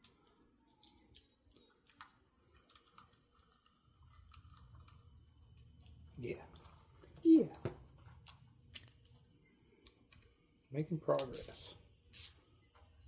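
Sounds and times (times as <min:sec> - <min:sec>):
small parts clicking: 0:00.0 - 0:10.4, 0:11.1 - 0:13.0.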